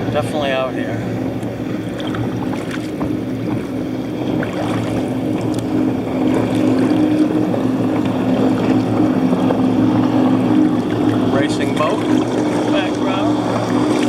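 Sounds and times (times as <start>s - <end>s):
powerboat engine droning: 0.0s - 14.0s
water noise: 0.0s - 14.0s
wind: 0.0s - 14.0s.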